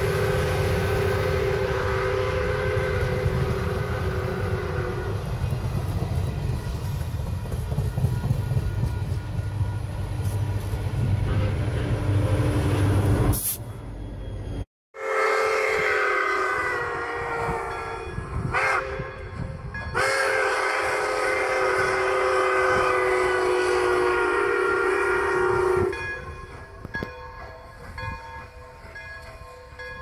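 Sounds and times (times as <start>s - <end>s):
steam locomotive chime whistle: 0.0s - 5.6s, 7.6s - 10.4s, 13.2s - 30.0s.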